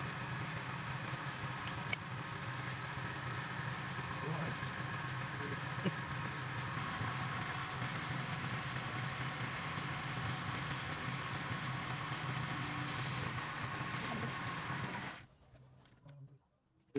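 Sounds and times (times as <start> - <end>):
wood lathe whirring: 0.0 - 15.2.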